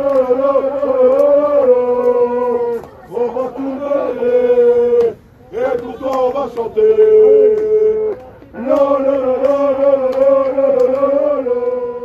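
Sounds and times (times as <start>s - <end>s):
football supporters chanting: 0.0s - 12.0s.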